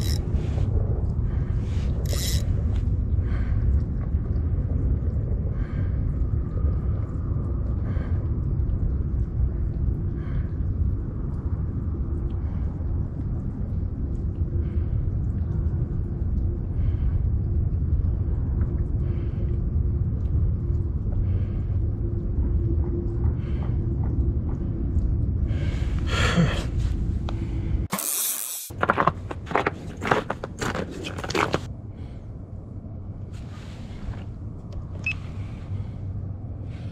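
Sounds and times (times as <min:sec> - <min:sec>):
faint steady hum: 0:00.0 - 0:28.0, 0:28.8 - 0:36.9.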